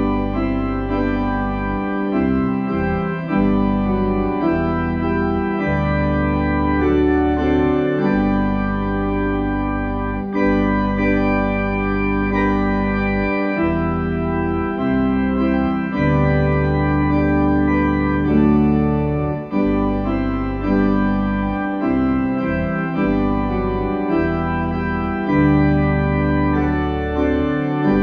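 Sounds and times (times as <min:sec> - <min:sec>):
slow organ chords: 0:00.0 - 0:28.0.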